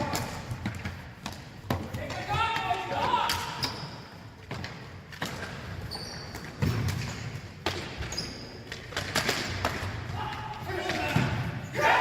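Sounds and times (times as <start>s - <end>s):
hockey sticks knocking ball: 0.0s - 11.5s.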